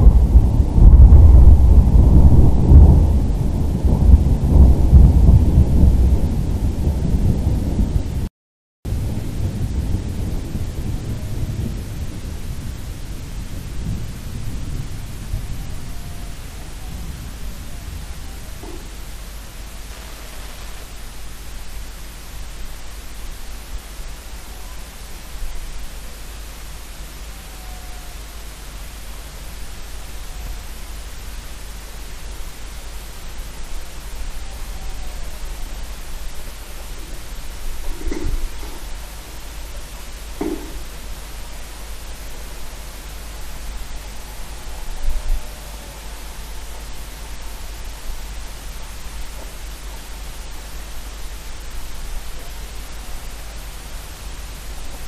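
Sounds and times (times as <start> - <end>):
storm hiss: 0.0 - 8.3, 8.9 - 55.0
thunder rumbling: 0.0 - 8.3, 8.9 - 55.0.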